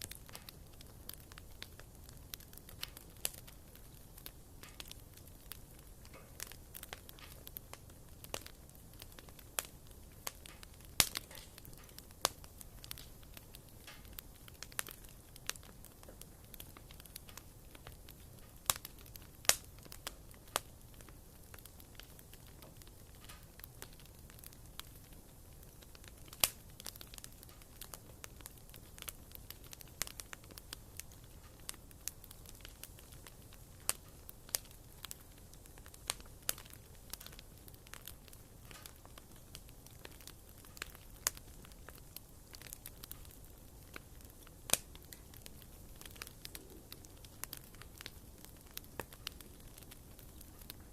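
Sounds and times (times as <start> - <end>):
faint fire hiss: 0.0 - 50.9
wood fire crackling and popping: 0.0 - 50.9.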